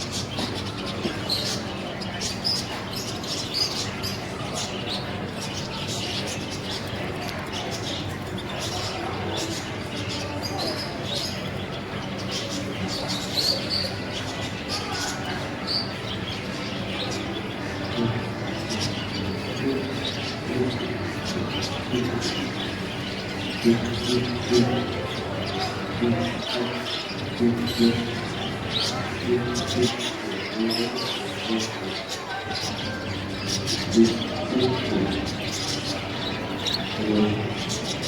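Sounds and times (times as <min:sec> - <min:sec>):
canaries chirping: 0:00.0 - 0:38.0.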